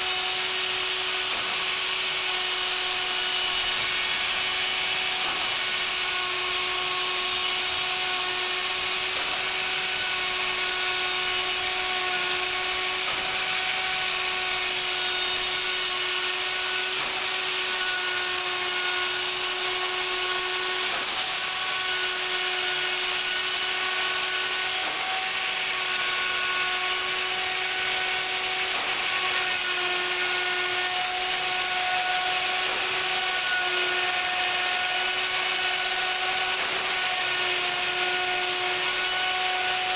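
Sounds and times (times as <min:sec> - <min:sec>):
electric router whining: 0:00.0 - 0:39.9.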